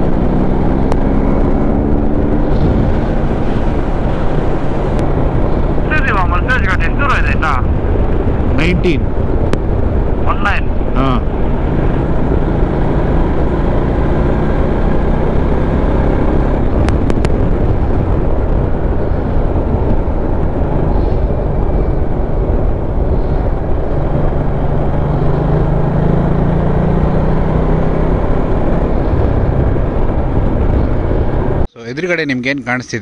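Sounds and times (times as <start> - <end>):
motorcycle engine: 0.0 - 31.7
wind rush over microphone: 0.0 - 31.7.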